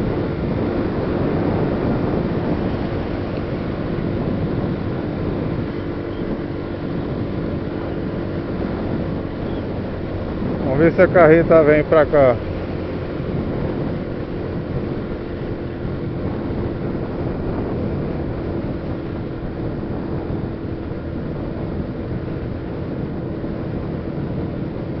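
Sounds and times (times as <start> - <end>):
vehicle engine and tyre noise: 0.0 - 25.0
wind noise on microphone: 0.0 - 25.0.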